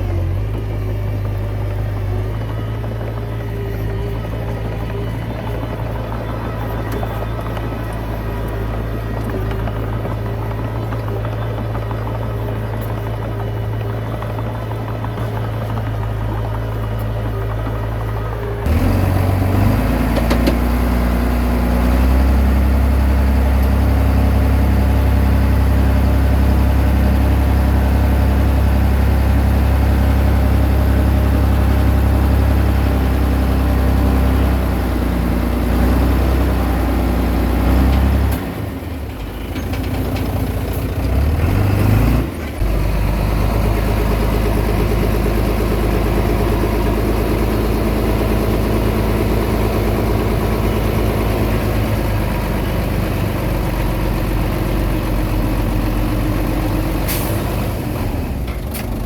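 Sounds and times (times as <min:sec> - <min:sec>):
bulldozer diesel engine droning: 0:00.0 - 0:59.0.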